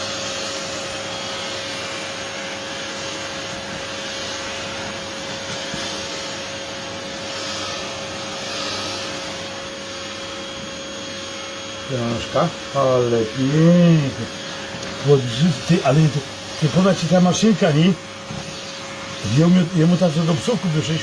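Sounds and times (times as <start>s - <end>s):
grooming vacuum whining: 0.0s - 21.0s.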